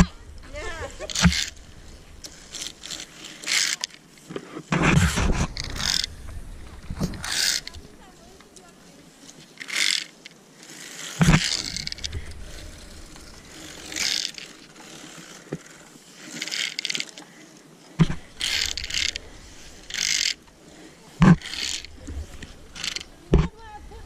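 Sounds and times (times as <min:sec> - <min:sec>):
metal pulley scraping along cable: 0:00.0 - 0:08.4, 0:09.3 - 0:24.0.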